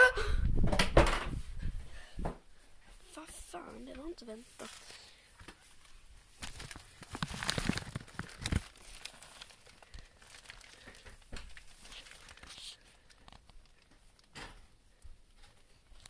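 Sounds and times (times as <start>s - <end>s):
rustling and crinkling handling noise: 1.3s - 16.0s.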